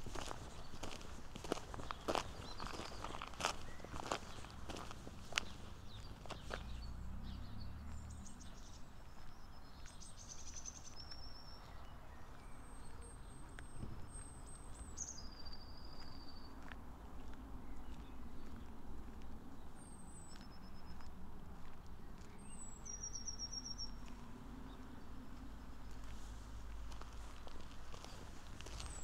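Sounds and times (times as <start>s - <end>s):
small songbirds chirping: 0.0s - 29.0s.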